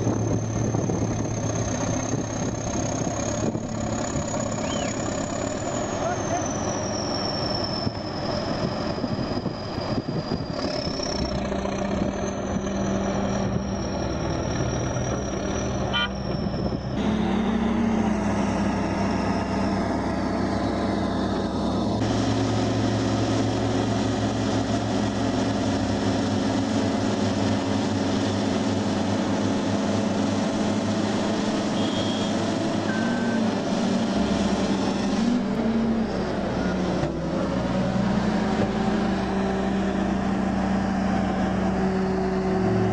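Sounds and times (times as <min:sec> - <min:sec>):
heavy vehicle engine running: 0:00.0 - 0:42.9.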